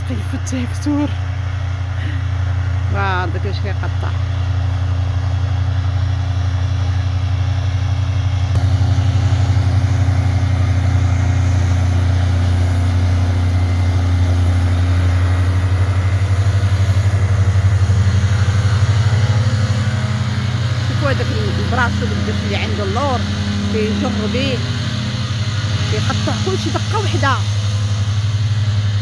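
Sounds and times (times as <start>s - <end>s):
mower cutting grass: 0.0s - 29.0s
tractor engine running: 0.0s - 29.0s.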